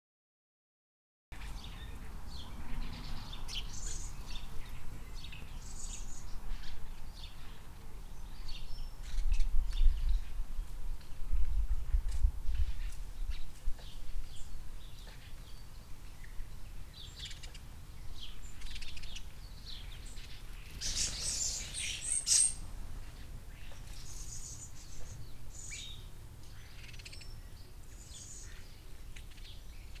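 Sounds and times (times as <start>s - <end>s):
sparrows chirping: 1.4s - 10.7s, 12.5s - 30.0s.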